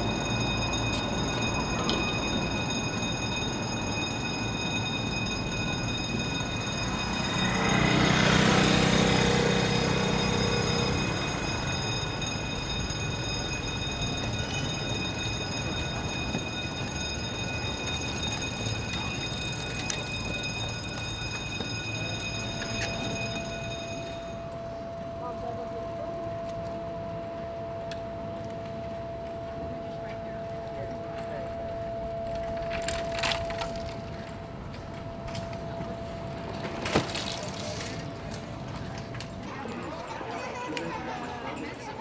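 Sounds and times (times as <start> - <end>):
low traffic rumble: 0.0 - 42.0
warning bell ringing: 0.0 - 42.0.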